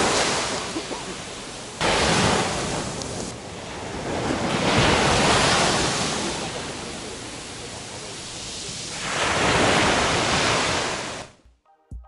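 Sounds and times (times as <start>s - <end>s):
waves breaking on beach: 0.0s - 11.4s.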